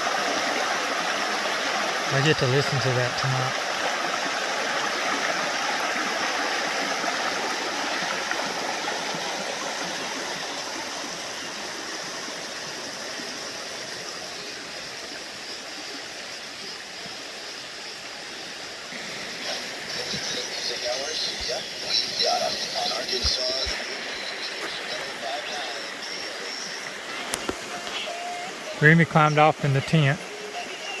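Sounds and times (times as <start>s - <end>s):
stream of running water: 0.0s - 31.0s.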